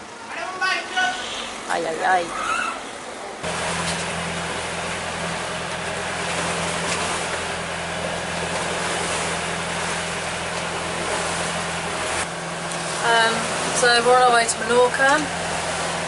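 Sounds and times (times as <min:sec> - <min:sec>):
boat engine humming: 0:00.0 - 0:16.0
water rushing along hull: 0:00.0 - 0:16.0.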